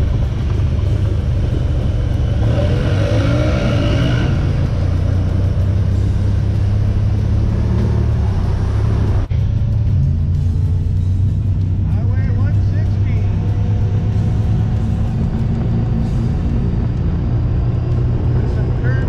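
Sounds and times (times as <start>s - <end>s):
off-road vehicle engine droning: 0.0s - 19.0s.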